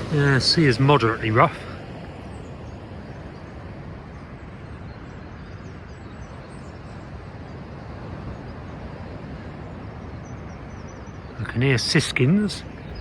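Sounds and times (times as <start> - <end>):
faint bird chirps: 0.0 - 13.0
rough sea breaking: 0.0 - 13.0.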